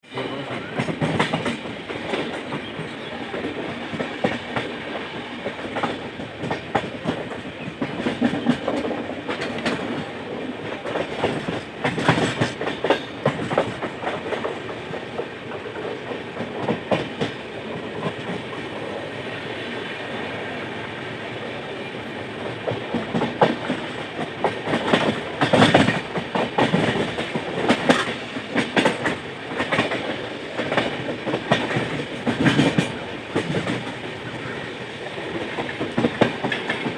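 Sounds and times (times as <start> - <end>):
train running noise: 0.0 - 36.9
train wheels clattering over rail joints: 0.5 - 18.9, 22.3 - 36.9.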